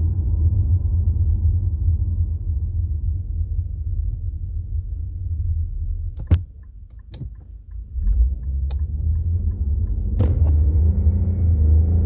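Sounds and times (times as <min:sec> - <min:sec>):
car engine accelerating: 0:00.0 - 0:12.0
car interior road rumble: 0:00.0 - 0:12.0.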